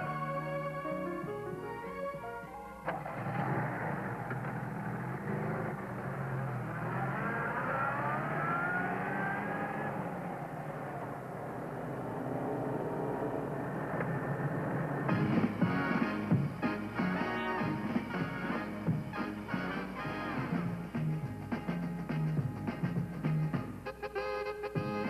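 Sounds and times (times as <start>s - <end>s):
car engine accelerating: 0.0s - 23.8s.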